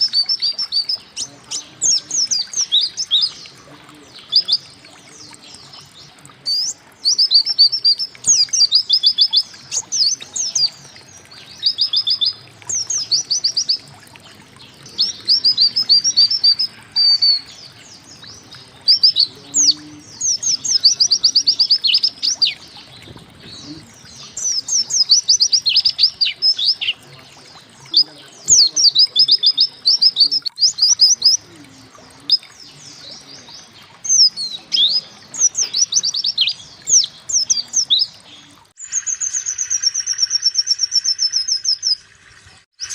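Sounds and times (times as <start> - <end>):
bird rapid high chirping: 0.0 - 13.9, 14.6 - 27.1, 27.8 - 31.5, 32.2 - 42.0.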